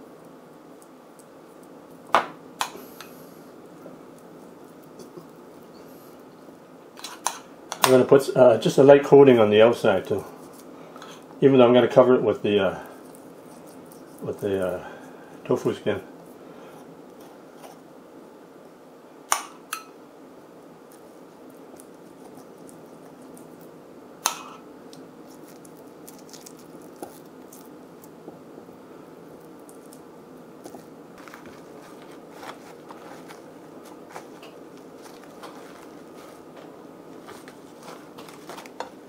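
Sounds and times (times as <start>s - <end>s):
steady low hiss: 0.0s - 39.0s.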